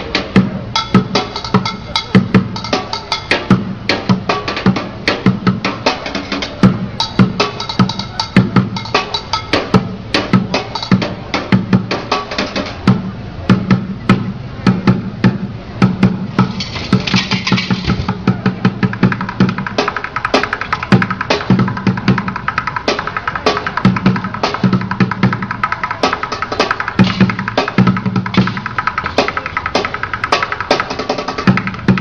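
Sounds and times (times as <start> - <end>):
drumming on plastic buckets: 0.2 - 32.0.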